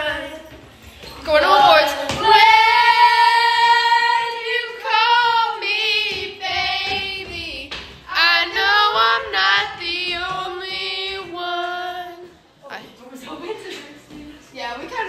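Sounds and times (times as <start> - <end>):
girls singing: 0.0 - 12.6.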